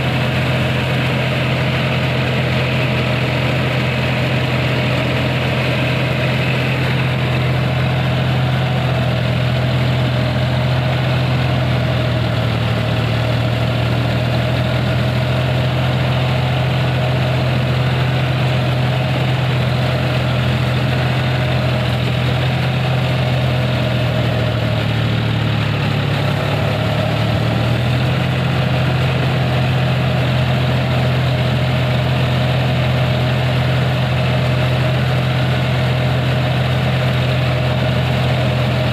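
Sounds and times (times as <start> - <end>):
tractor diesel engine idling: 0.0 - 38.9.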